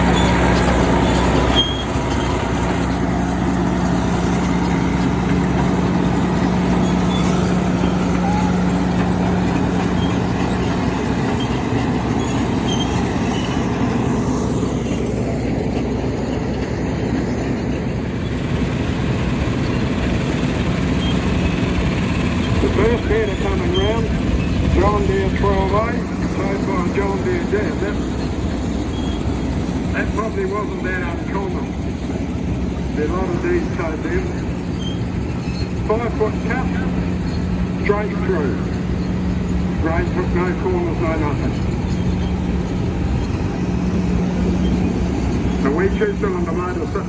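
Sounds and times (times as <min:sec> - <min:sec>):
farm machinery engines droning: 0:00.0 - 0:47.0.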